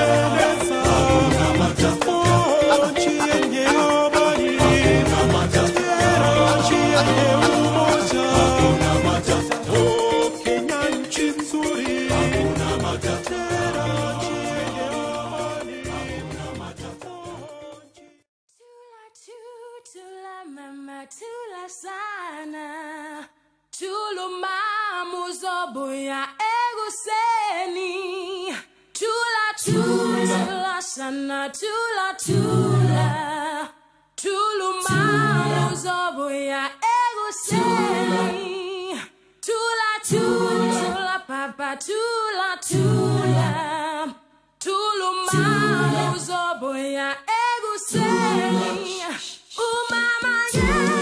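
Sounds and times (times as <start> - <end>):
a cappella group singing: 0.0 - 18.2, 19.4 - 51.0.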